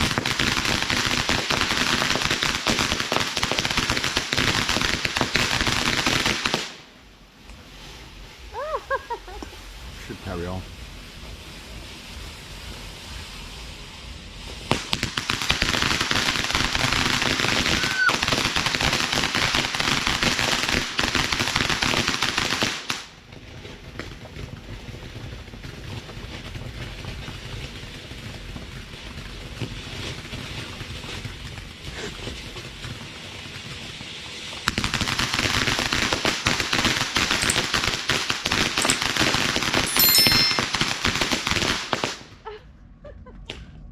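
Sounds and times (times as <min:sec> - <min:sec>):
firework fountain crackling: 0:00.0 - 0:43.6.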